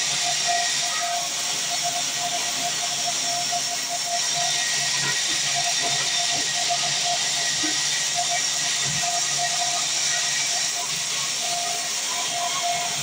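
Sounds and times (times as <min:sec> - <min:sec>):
band saw cutting timber: 0:00.0 - 0:13.0.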